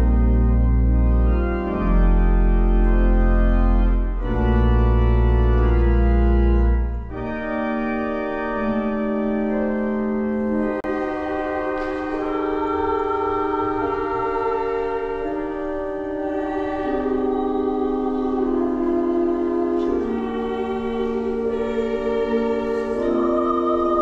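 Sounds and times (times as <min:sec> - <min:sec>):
deep organ pedal bass notes: 0:00.0 - 0:23.9
church organ chords: 0:00.0 - 0:24.0.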